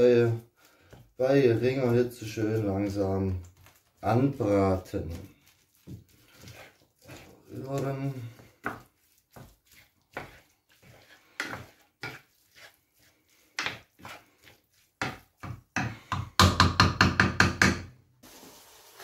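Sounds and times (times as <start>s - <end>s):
wooden spatula scraping a pan: 0.0s - 16.4s.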